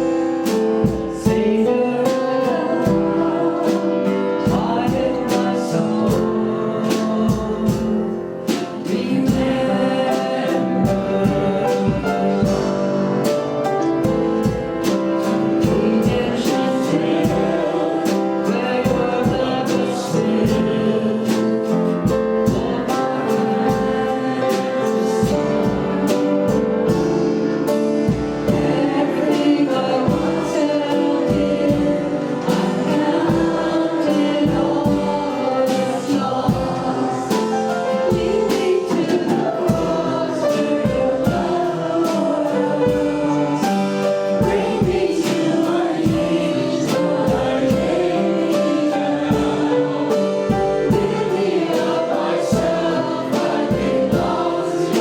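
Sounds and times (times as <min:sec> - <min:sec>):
group singing gospel worship song: 0:00.0 - 0:55.0
instrumental accompaniment with beat: 0:00.0 - 0:55.0.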